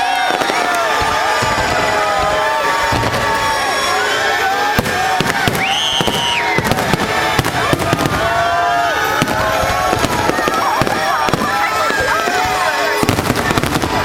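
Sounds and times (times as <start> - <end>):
fireworks bursting: 0.0 - 14.0
high firework whistle: 0.0 - 14.0
large crowd voices: 0.0 - 14.0.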